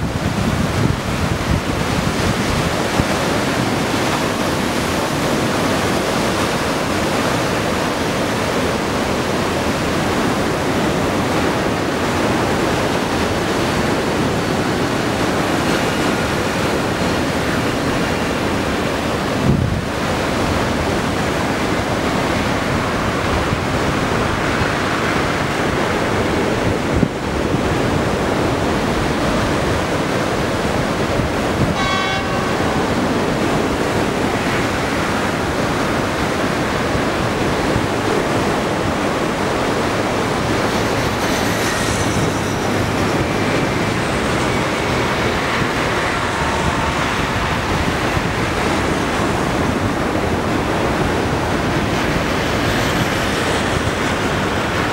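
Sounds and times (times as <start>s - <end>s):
waves breaking on beach: 0.0s - 54.9s
wind buffeting microphone: 0.0s - 54.9s.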